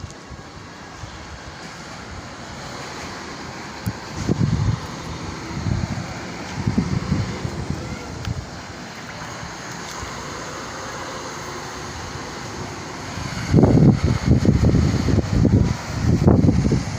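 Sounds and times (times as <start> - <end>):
wind buffeting microphone: 0.0 - 10.6, 11.8 - 16.9.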